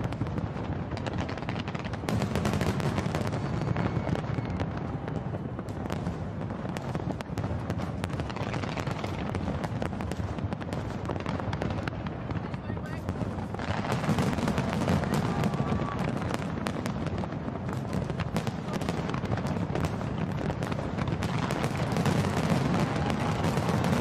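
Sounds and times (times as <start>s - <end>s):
fireworks popping and crackling: 0.0s - 24.0s.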